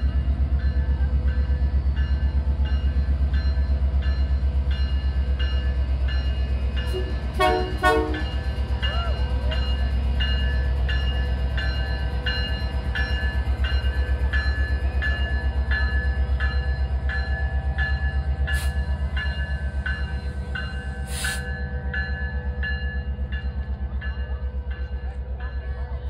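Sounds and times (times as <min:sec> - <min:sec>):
diesel locomotive rumbling: 0:00.0 - 0:26.0
railway bell ringing: 0:00.0 - 0:26.0.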